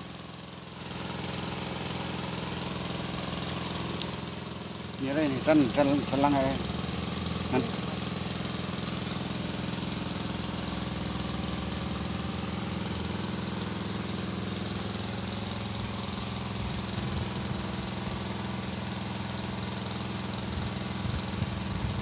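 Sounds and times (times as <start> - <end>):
engine-driven water pump running: 0.0 - 22.0.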